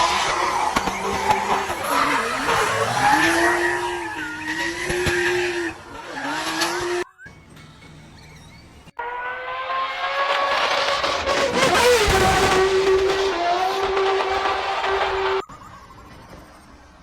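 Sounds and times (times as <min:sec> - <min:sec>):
racing motorcycle engine: 0:00.0 - 0:15.4.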